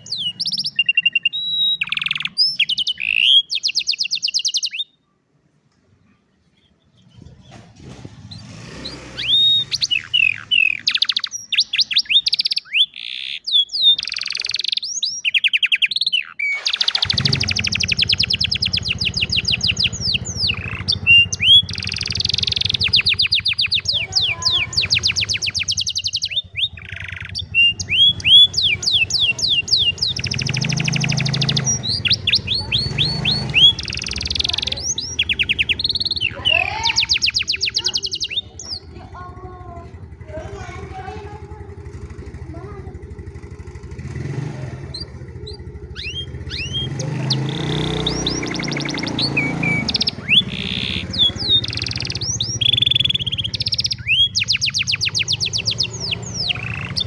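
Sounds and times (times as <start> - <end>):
canary singing trills: 0.0 - 5.2, 6.4 - 57.0.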